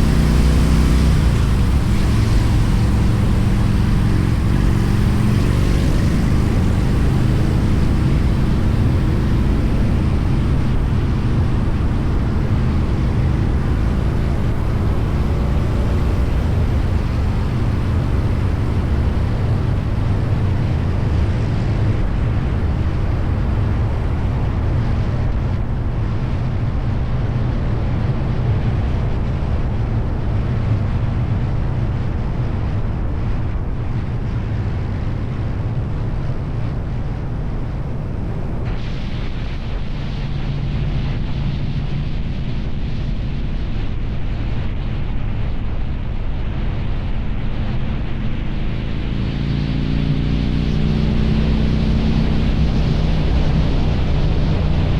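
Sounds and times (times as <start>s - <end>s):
motorcycle engine drone: 0.0s - 54.9s
wind rush on microphone: 0.0s - 54.9s.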